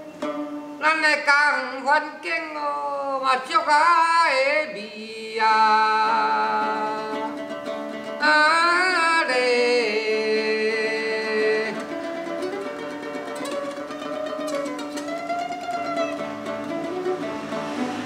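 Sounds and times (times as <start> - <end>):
plucked lute: 0.0 - 18.0
man singing folk song: 0.8 - 15.7.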